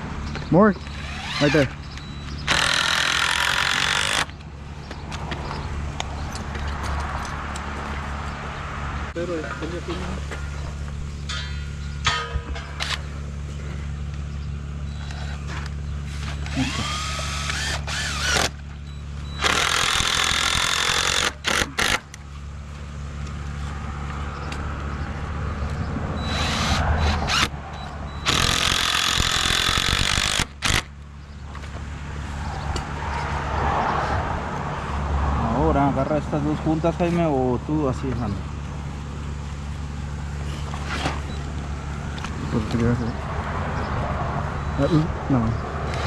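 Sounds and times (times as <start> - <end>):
engine running at low hum: 0.0 - 46.0.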